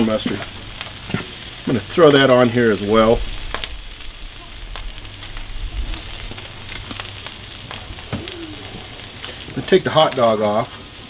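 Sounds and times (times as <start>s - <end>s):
low hum: 0.0s - 9.5s
food sizzling on griddle: 0.0s - 11.0s.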